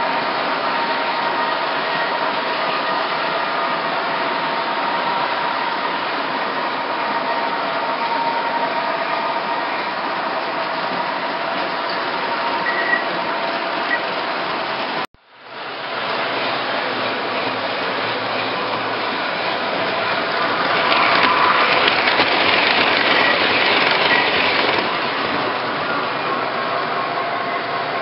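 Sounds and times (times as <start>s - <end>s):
model trains rattling on track: 0.0s - 28.0s.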